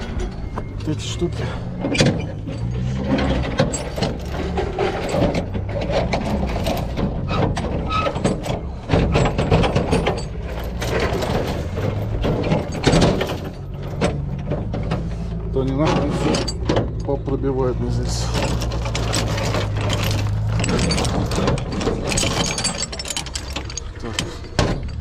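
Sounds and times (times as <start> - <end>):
chains clinking and rattling: 0.0 - 25.0.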